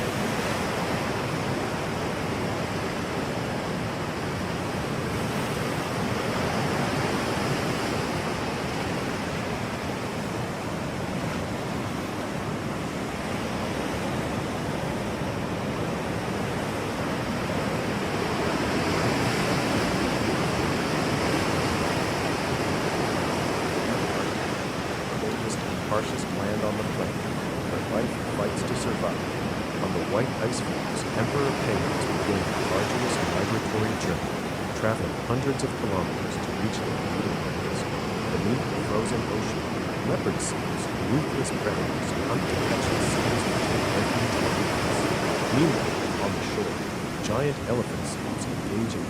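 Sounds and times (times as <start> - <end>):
steady rushing noise: 0.0 - 49.0.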